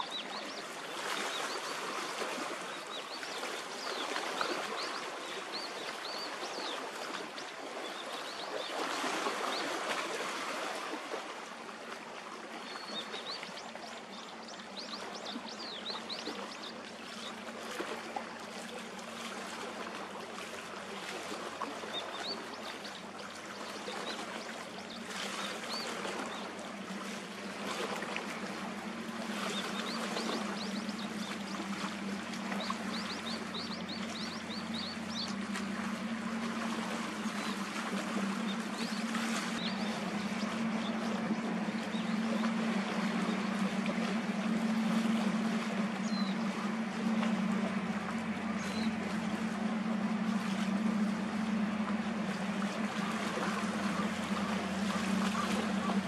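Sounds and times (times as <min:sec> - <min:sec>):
low steady hum: 0:00.0 - 0:56.0
water lapping at shoreline: 0:00.0 - 0:56.0.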